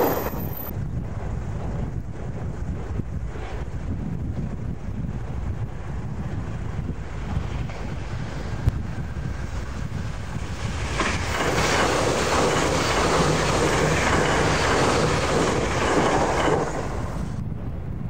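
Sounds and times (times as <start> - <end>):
electric train passing at speed: 0.0 - 18.0.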